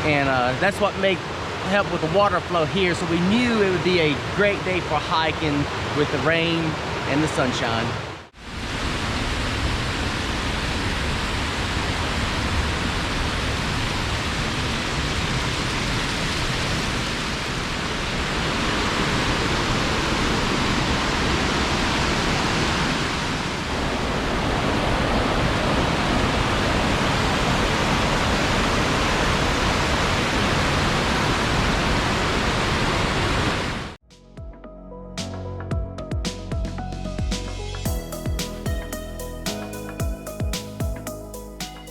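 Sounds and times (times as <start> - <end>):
waterfall and creek rushing: 0.0 - 34.0.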